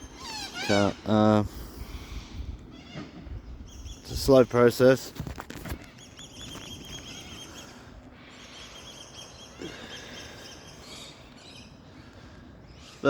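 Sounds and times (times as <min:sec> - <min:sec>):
birds chirping trills: 0:00.0 - 0:13.0.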